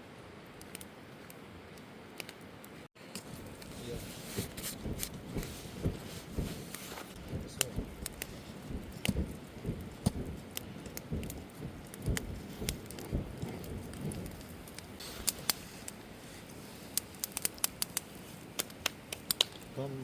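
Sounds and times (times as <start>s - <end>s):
campfire crackling and popping: 0.1s - 20.0s.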